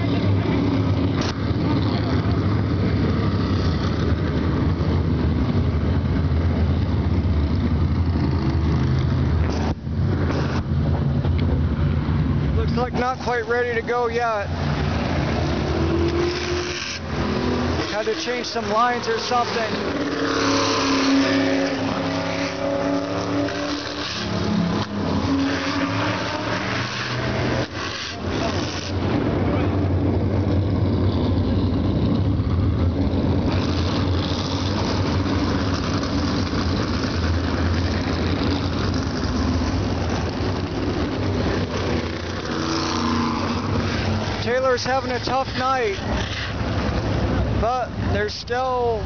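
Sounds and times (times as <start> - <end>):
race car engines running: 0.0 - 49.0.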